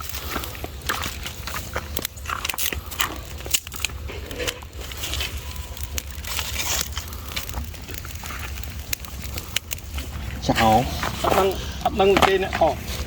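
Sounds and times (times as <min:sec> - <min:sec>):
dry leaves crackling and snapping: 0:00.0 - 0:13.0
steady low rumble: 0:00.0 - 0:13.0.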